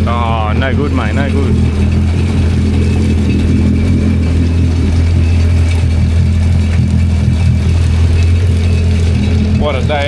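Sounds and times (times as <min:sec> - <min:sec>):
jet ski engine idling: 0:00.0 - 0:10.0.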